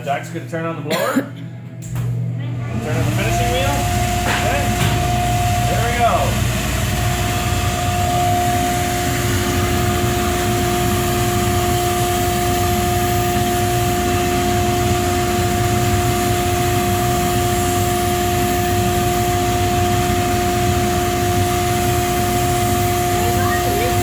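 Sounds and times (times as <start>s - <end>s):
dust collection blower: 2.5s - 24.0s
sharpening machine humming: 2.5s - 24.0s.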